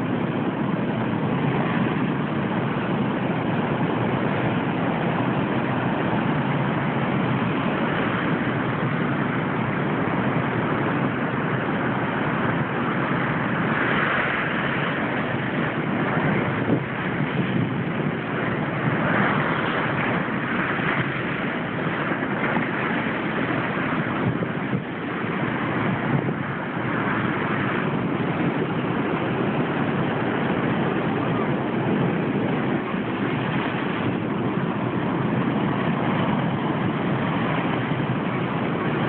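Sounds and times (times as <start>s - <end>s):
ocean surf waves breaking: 0.0s - 39.0s.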